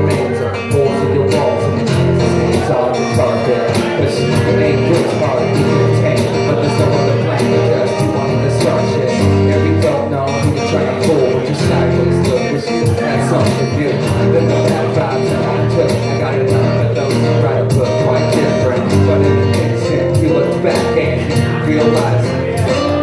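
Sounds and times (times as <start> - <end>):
guitar: 0.0 - 23.0
rock band playing loudly: 0.0 - 23.0.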